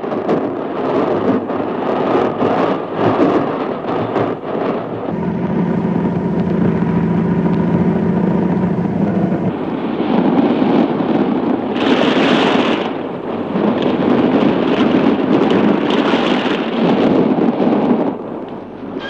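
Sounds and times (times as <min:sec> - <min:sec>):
loud steady rumbling: 0:00.0 - 0:19.0.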